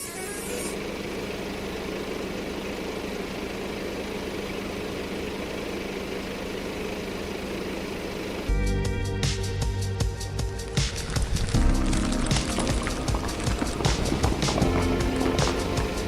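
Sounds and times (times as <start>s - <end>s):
heavy engine idling: 0.0s - 16.0s.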